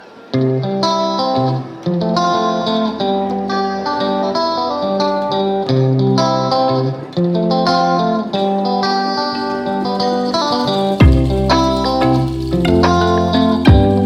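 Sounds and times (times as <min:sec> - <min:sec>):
guitar playing plucked notes: 0:00.0 - 0:14.0.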